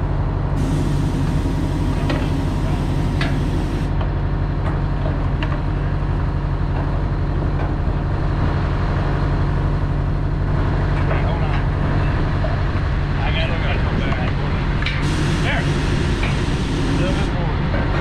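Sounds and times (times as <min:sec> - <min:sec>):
diesel engine idling: 0:00.0 - 0:17.8.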